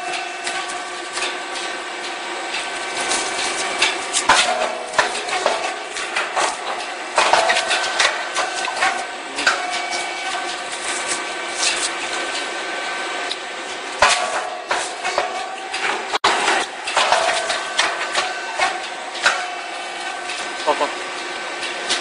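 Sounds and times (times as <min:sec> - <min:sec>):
machine hum: 0:00.0 - 0:22.0
machine clicks and knocks: 0:00.1 - 0:12.5, 0:14.0 - 0:22.0.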